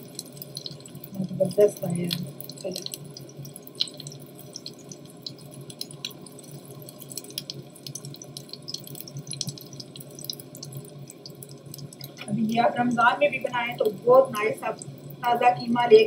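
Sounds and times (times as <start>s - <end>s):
meat patties sizzling in oil: 0.0s - 16.0s
steady low hum: 0.0s - 16.0s.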